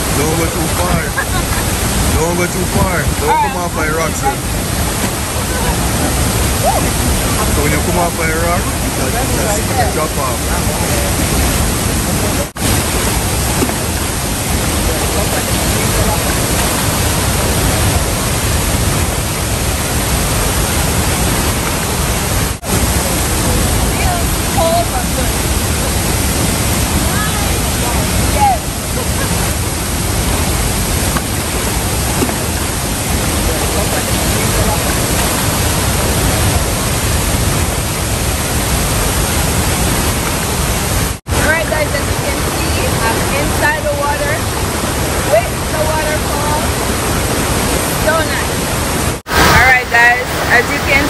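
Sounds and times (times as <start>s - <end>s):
waterfall rushing into pool: 0.0s - 51.0s.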